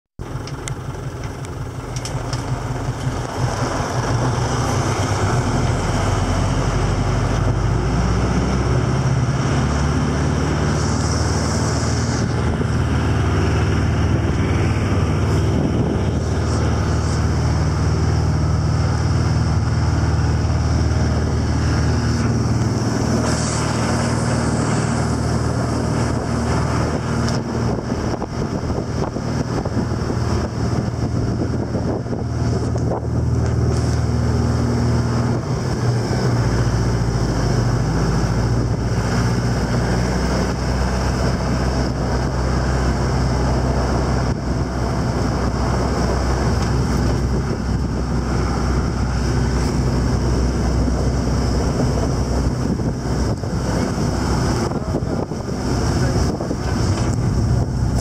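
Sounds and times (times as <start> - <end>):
tractor engine under load: 0.2 - 58.0.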